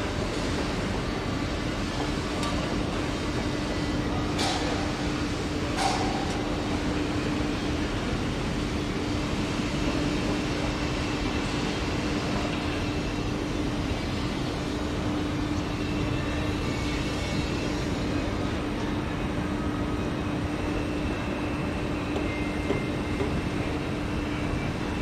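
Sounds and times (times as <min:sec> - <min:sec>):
electric train running slowly: 0:00.0 - 0:25.0.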